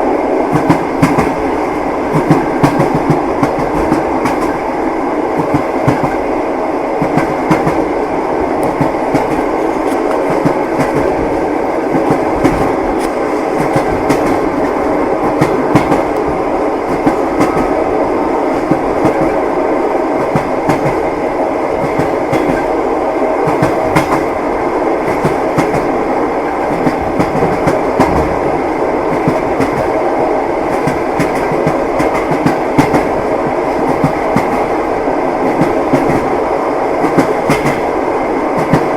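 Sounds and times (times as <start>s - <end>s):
railway carriage rolling rumble: 0.0s - 38.9s
train wheels clacking over rails: 0.0s - 38.9s.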